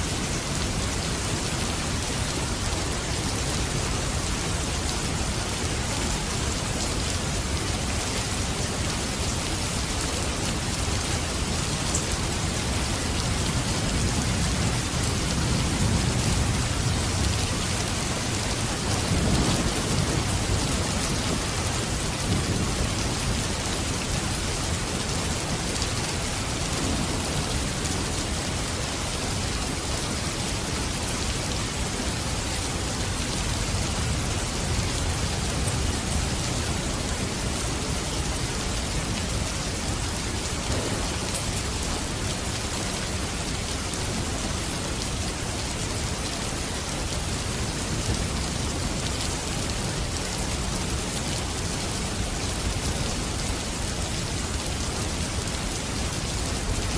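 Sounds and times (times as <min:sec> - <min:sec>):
heavy rain hissing: 0:00.0 - 0:56.9.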